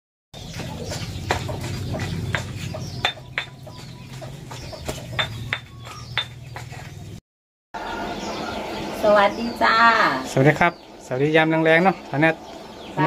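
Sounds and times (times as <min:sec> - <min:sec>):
birds chirping: 0:00.4 - 0:07.2, 0:07.8 - 0:13.0.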